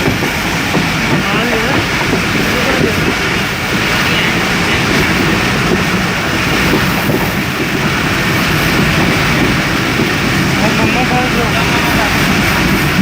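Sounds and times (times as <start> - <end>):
moving train rumble from on board: 0.0 - 13.0.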